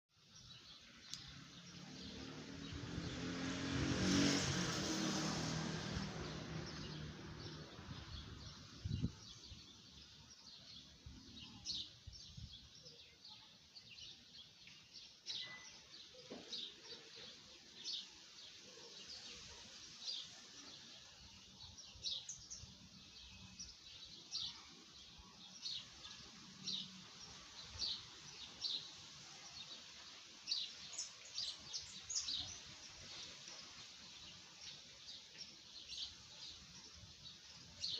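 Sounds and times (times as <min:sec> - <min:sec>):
small birds chirping: 0:00.2 - 0:03.8, 0:05.9 - 0:37.9.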